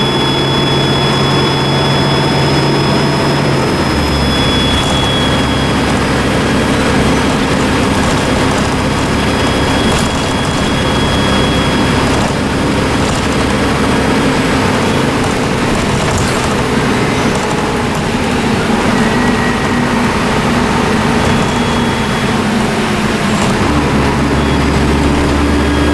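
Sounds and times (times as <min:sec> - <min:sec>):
bus engine and road noise: 0:00.0 - 0:25.9
turbocharger whistle: 0:00.0 - 0:25.9
brief rattles: 0:00.1 - 0:25.9.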